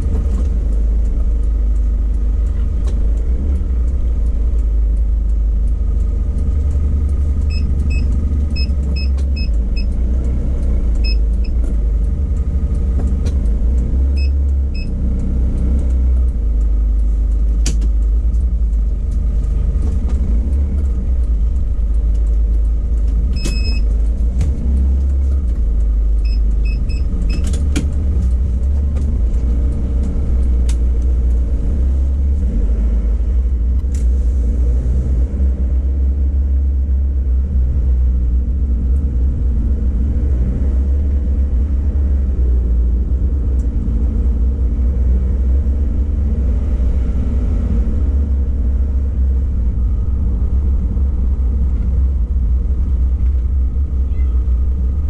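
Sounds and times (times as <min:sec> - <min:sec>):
engine and road noise: 0:00.0 - 0:55.0.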